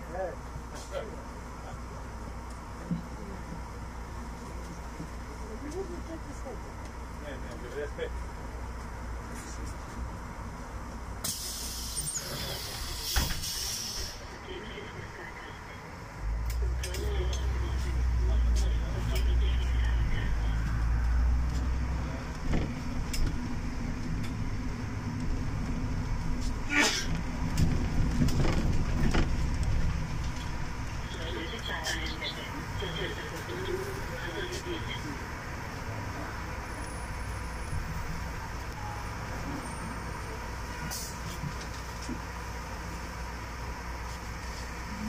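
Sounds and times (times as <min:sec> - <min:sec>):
bus engine and road rumble: 0:00.0 - 0:45.0.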